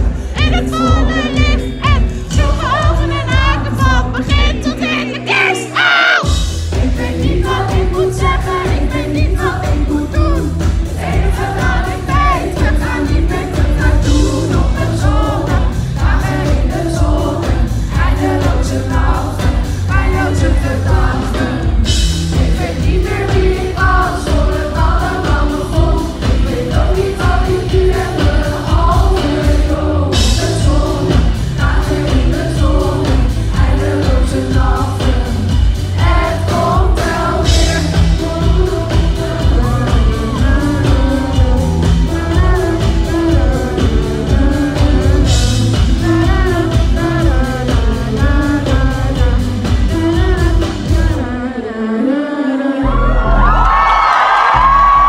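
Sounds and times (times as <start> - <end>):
live pop band playing: 0.0 - 52.2, 52.8 - 55.0
woman singing lead: 0.0 - 55.0.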